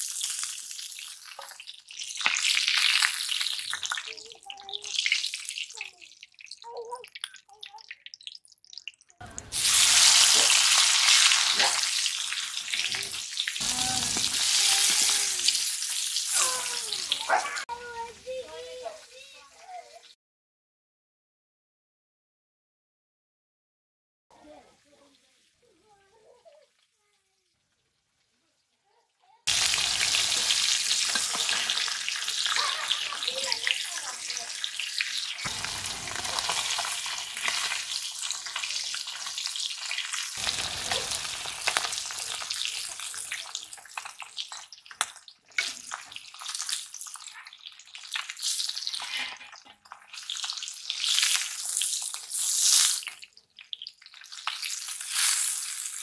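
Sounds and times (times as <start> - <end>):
fish sizzling in hot oil: 0.0 - 20.0, 29.4 - 56.0.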